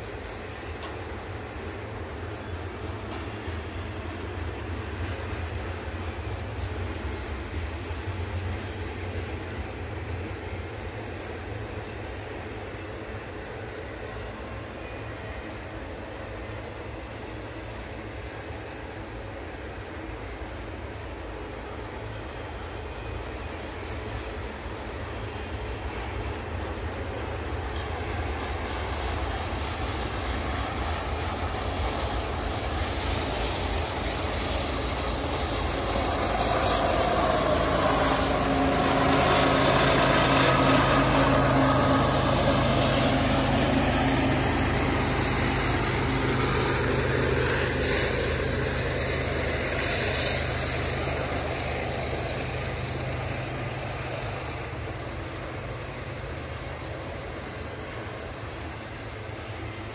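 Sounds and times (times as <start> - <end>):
freight train rumbling and rattling: 0.0 - 59.9
low drone: 0.0 - 59.9.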